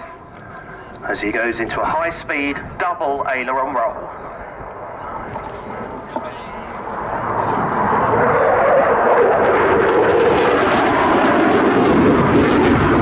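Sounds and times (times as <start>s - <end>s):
jet engines on low pass: 0.0s - 13.0s.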